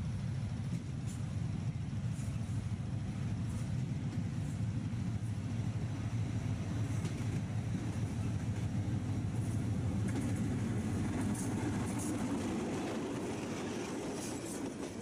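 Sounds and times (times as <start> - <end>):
diesel locomotive rumble: 0.0 - 15.0
faint clicks from rails: 0.6 - 5.7, 6.6 - 15.0.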